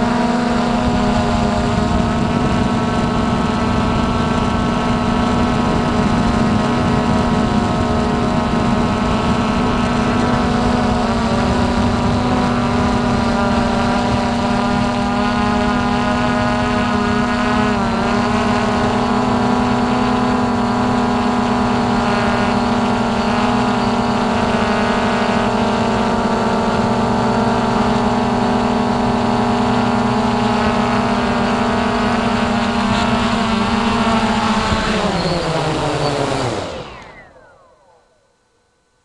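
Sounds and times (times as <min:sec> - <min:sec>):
drone propellers whirring: 0:00.0 - 0:38.6.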